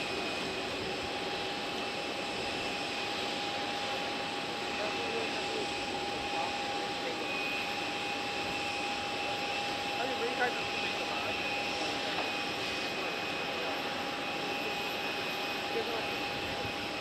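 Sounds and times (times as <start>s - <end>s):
jet engines running: 0.0s - 17.0s
steady engine whine: 0.0s - 17.0s.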